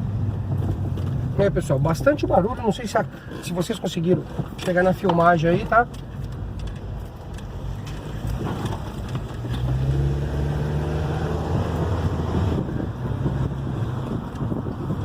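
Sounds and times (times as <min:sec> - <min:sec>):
car engine driving: 0:00.0 - 0:15.0
road and wind noise: 0:00.0 - 0:15.0.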